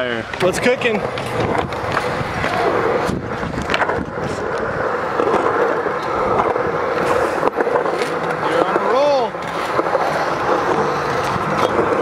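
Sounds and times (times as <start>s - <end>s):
constant hum: 0.0s - 12.0s
skateboard wheels rolling on concrete: 0.0s - 12.0s.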